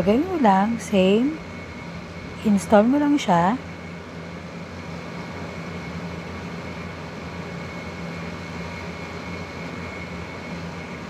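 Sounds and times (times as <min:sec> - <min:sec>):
faint high whine: 0:00.0 - 0:11.0
low background hum: 0:00.0 - 0:11.0.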